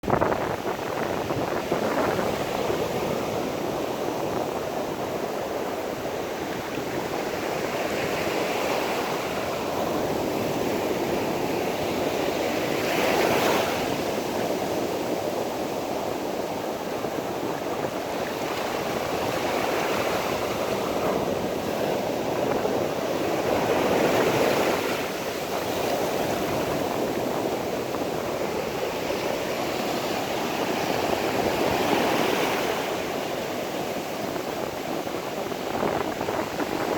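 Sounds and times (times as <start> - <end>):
sea surf washing onto shore: 0.0 - 36.9.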